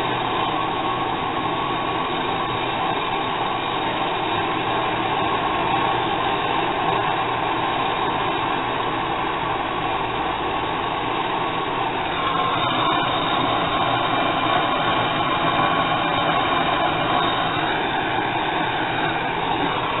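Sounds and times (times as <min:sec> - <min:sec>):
gas torch flame hissing: 0:00.0 - 0:20.0.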